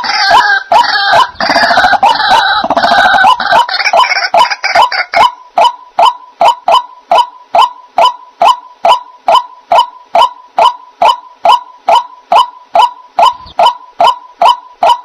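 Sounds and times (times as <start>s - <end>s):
waterhen call: 0.0s - 15.0s
faint steady tone: 1.2s - 15.0s.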